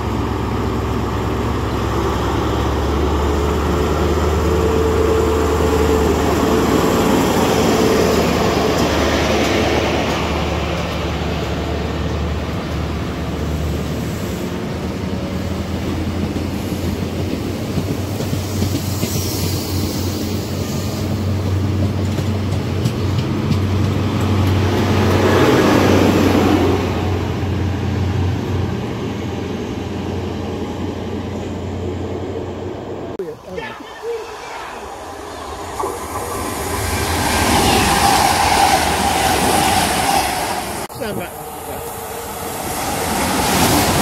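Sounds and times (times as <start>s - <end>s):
diesel train engine hum: 0.0s - 44.0s.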